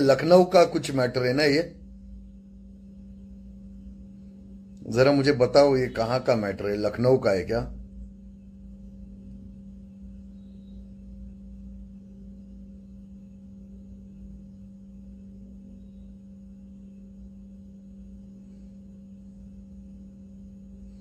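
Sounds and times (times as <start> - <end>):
faint low rumble: 0.0 - 21.0
steady low hum: 0.0 - 21.0.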